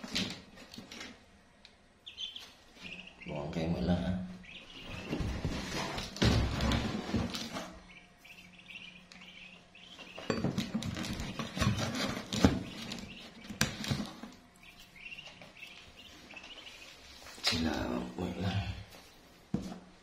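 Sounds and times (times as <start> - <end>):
ducklings peeping: 0.0 - 19.8.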